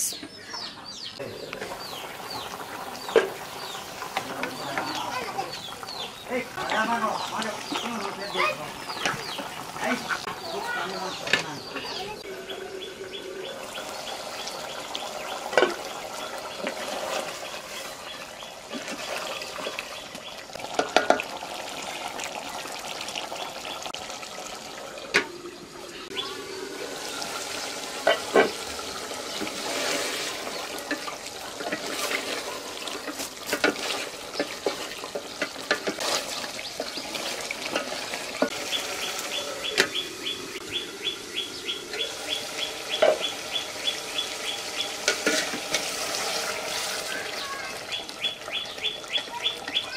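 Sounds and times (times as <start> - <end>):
curry bubbling in a pot: 1.5 - 49.9.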